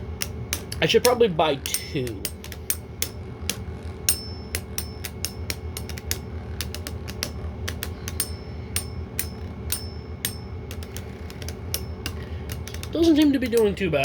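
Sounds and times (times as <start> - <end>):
low hum of spinning: 0.0 - 14.0
spinning tops clashing: 0.0 - 14.0.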